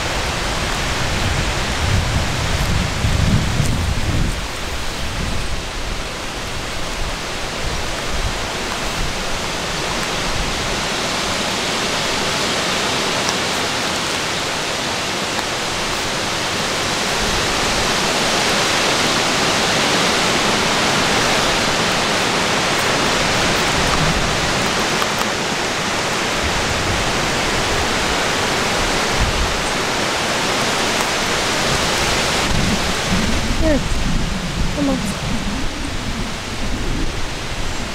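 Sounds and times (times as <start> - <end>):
wind blowing across microphone: 0.0 - 37.9.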